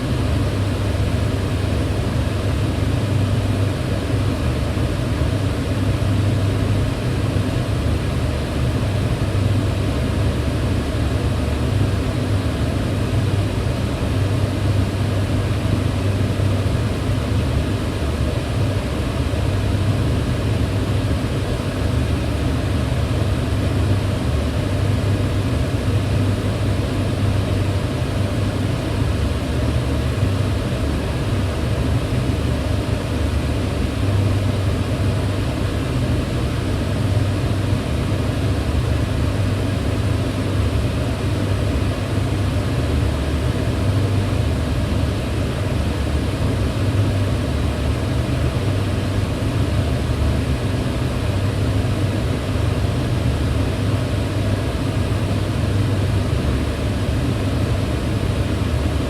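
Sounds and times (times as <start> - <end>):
range hood fan running: 0.0 - 59.0.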